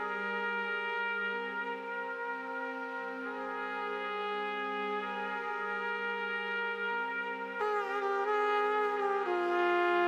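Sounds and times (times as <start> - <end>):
slow trumpet jazz: 0.0 - 10.0.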